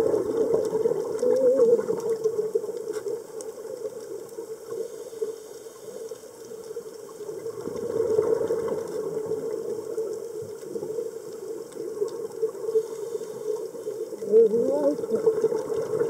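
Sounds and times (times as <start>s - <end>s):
underwater watery rush: 0.0s - 16.0s.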